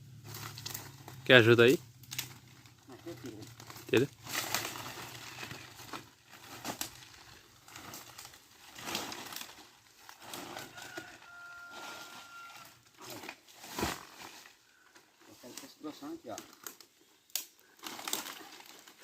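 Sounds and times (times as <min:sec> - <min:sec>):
dry branches rustling and snapping: 0:00.2 - 0:19.0.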